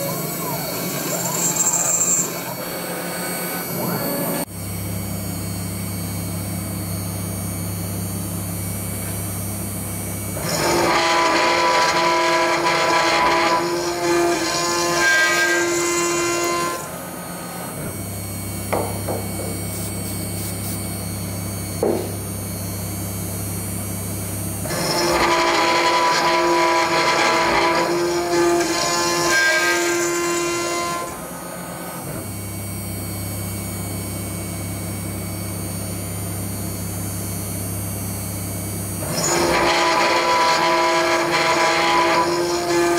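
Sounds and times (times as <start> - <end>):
router cutting steel: 0.0 - 42.9.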